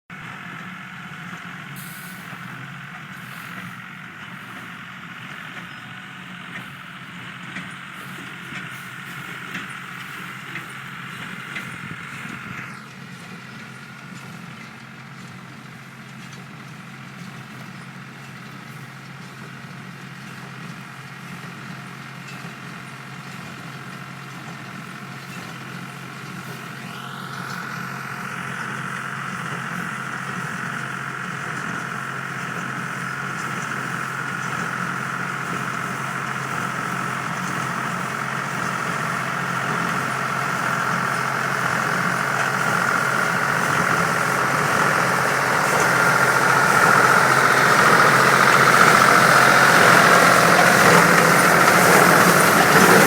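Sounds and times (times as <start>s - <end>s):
tractor engine running: 0.1s - 53.0s.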